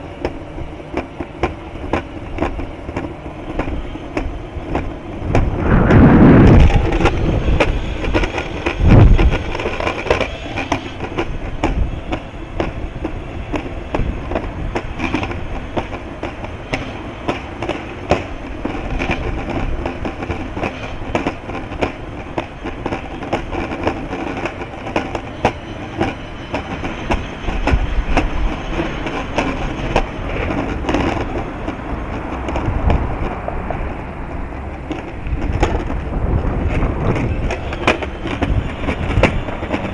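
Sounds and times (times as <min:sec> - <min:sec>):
wind buffeting microphone: 0:00.0 - 0:39.9
rattling clicking rumble: 0:00.1 - 0:39.9.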